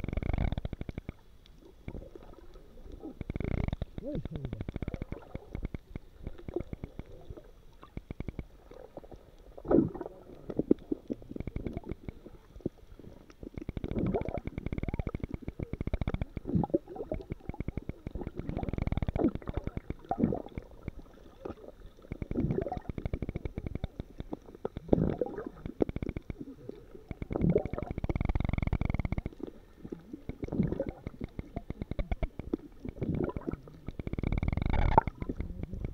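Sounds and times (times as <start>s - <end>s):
dense fine crackle: 0.0s - 35.9s
underwater rumbling and gurgling: 0.0s - 35.9s.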